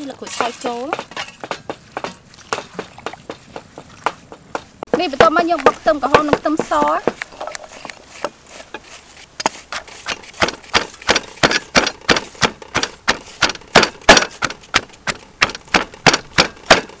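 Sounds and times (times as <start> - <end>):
wooden pestle pounding in mortar: 0.2 - 7.6, 9.8 - 17.0.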